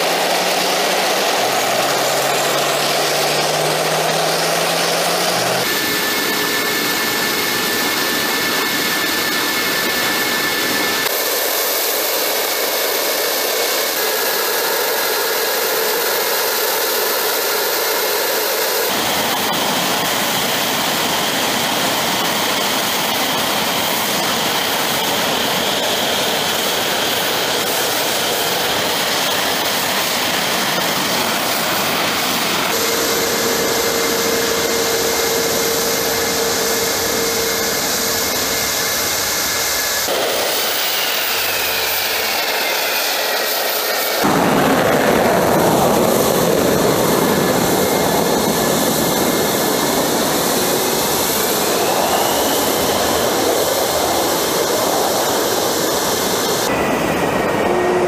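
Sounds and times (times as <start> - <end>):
jet engines running with high whine: 0.0 - 58.0.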